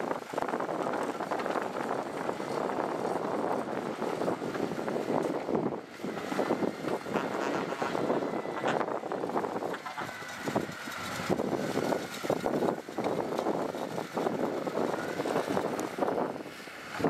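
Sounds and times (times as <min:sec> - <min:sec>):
heavy equipment diesel engine: 0:00.0 - 0:17.0
faint whine varying in pitch: 0:02.3 - 0:16.4.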